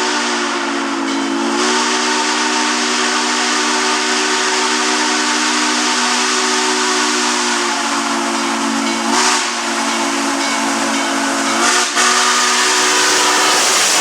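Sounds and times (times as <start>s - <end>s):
steam hissing: 0.0s - 14.0s
steam whistle chord: 0.0s - 14.0s.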